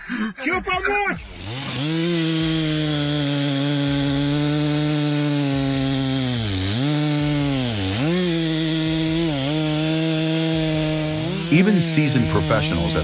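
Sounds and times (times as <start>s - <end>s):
chainsaw cutting wood: 1.2s - 13.0s.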